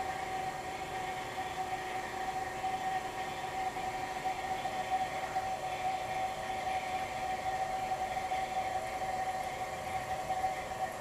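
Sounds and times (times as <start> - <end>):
refrigerator compressor running: 0.0 - 11.0.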